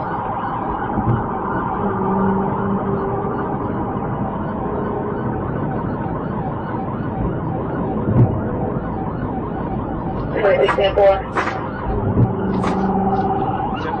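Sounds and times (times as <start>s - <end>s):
police siren yelping: 0.0s - 14.0s
vehicle noise: 0.0s - 14.0s.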